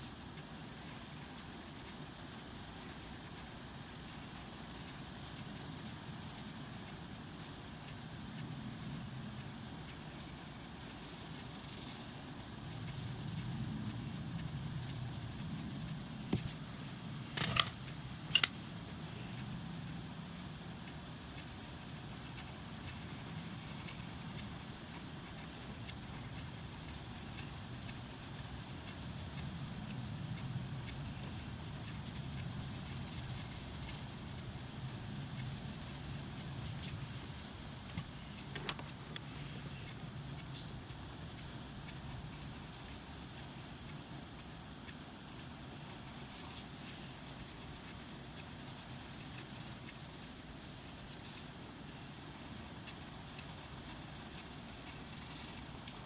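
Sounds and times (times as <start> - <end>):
coloured pencils scratching on paper: 0.0 - 16.7, 18.3 - 37.1, 38.7 - 56.0.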